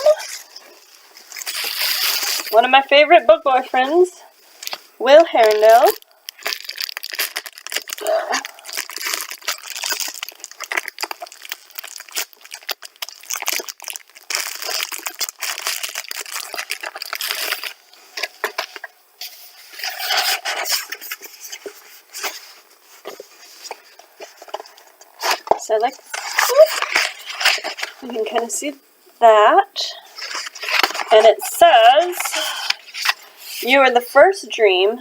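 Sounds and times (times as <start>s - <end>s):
paper rustling and crinkling: 0.0s - 28.6s, 30.0s - 34.0s.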